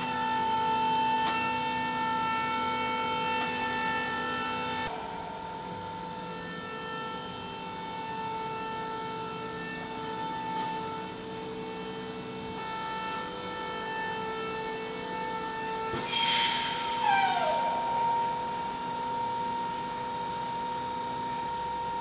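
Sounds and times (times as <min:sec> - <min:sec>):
high-pitched machine whine: 0:00.0 - 0:22.0.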